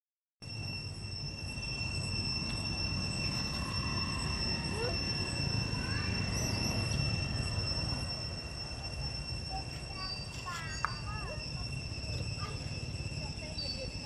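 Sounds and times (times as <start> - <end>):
faint rising chirps: 0.4 - 14.0
high-pitched insect drone: 0.4 - 14.0.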